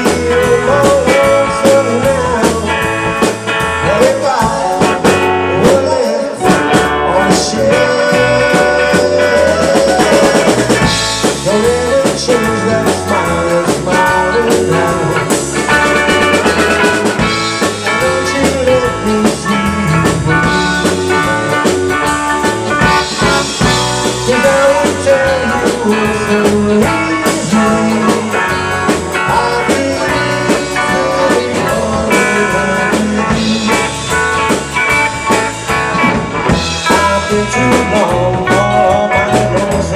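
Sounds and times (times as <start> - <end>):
live blues-rock band: 0.0 - 39.9.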